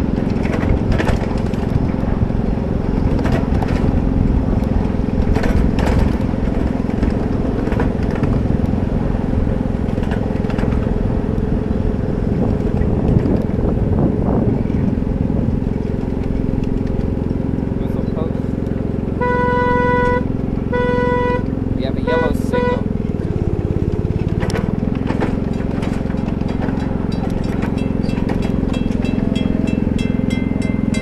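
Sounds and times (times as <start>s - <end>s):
miniature train engine drone: 0.0s - 31.0s
rumble of train cars: 0.0s - 31.0s
wheels clicking on rails: 0.0s - 31.0s.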